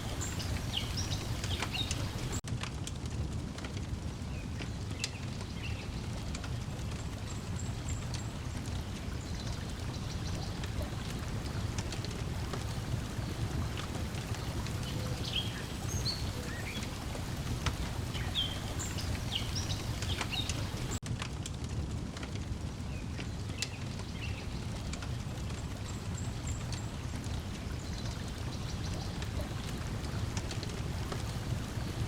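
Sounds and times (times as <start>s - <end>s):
lake water washing: 0.0s - 2.4s, 4.0s - 21.0s, 22.6s - 32.0s
wood fire crackling: 0.0s - 32.0s.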